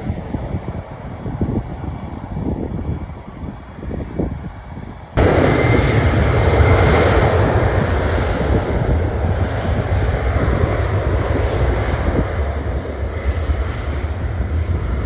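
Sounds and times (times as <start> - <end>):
airliner engines roaring: 0.0 - 15.0.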